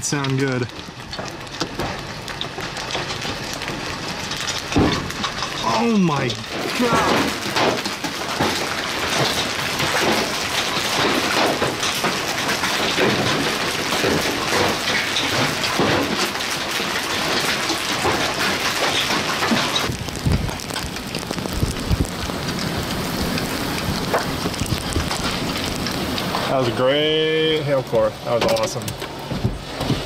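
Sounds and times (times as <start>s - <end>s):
hail and heavy rain pelting: 0.0s - 30.0s.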